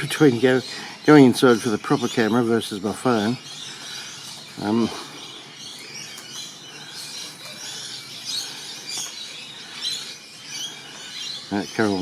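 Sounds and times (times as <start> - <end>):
birds chirping and calling: 0.0 - 12.0
steady background hiss: 0.0 - 12.0.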